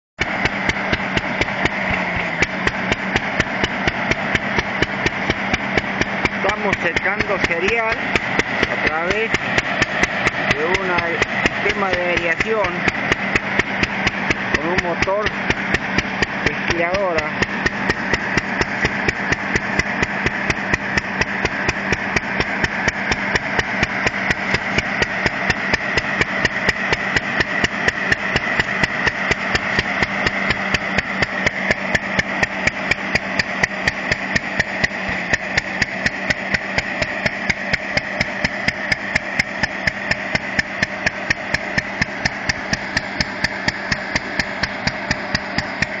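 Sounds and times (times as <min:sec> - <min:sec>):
fan whirring: 0:00.2 - 0:46.0
stationary engine knocking: 0:00.2 - 0:46.0.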